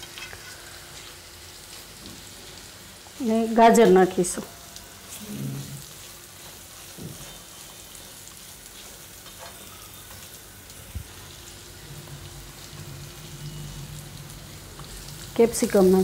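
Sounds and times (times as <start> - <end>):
carrots sizzling in oil: 0.0 - 16.0.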